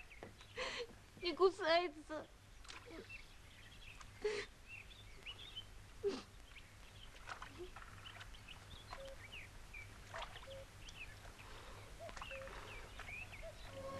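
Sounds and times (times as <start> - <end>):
birds chirping and twittering: 0.0 - 13.9.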